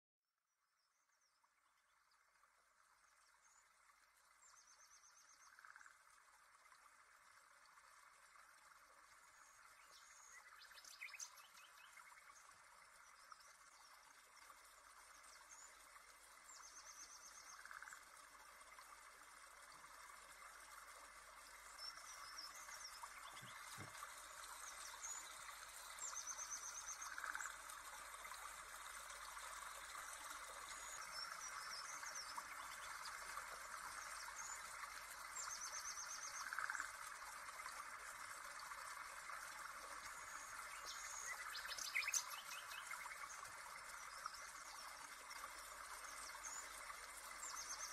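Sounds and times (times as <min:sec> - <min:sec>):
trickling stream: 0:00.4 - 0:47.9.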